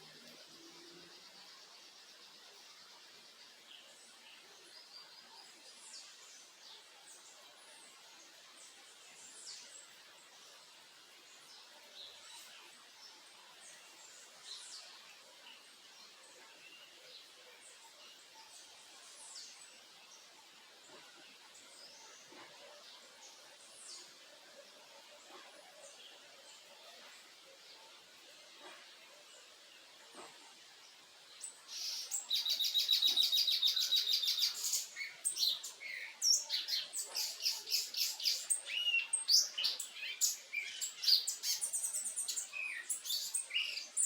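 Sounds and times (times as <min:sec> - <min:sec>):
faint background hiss: 0:00.0 - 0:44.0
small birds chirping: 0:00.0 - 0:44.0.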